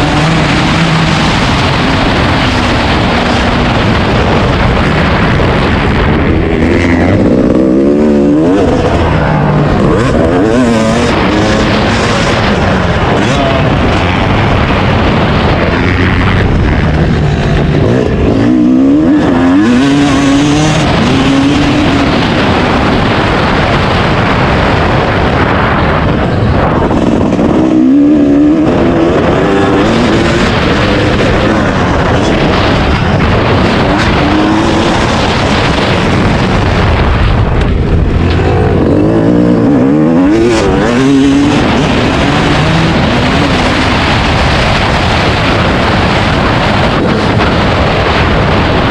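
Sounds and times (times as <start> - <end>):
dirt bike engine revving: 0.0 - 48.9
loud rushing noise: 0.0 - 48.9.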